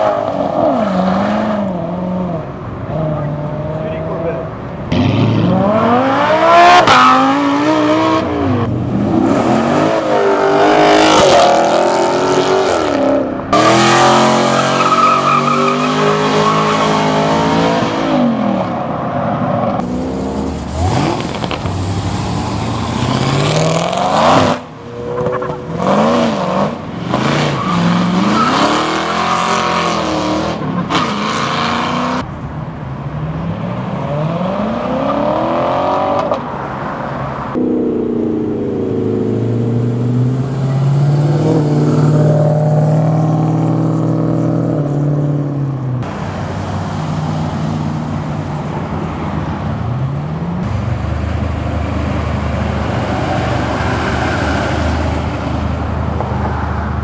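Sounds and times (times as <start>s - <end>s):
cars accelerating hard: 0.0s - 32.3s, 33.2s - 57.0s.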